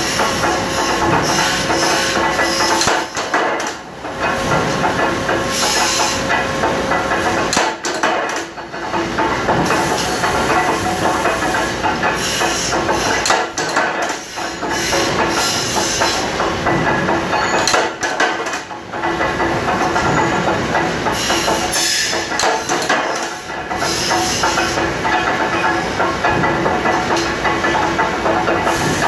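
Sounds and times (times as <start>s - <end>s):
machine mechanical hum: 0.0s - 29.0s
metallic clanks and knocks: 0.0s - 29.0s.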